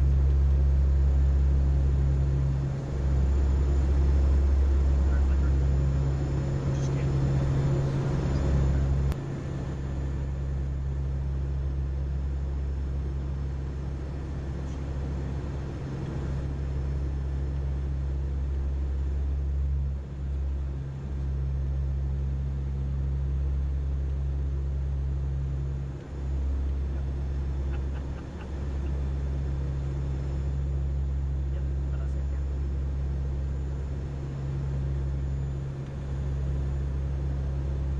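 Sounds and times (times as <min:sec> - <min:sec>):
aircraft engine drone: 0:00.0 - 0:37.9.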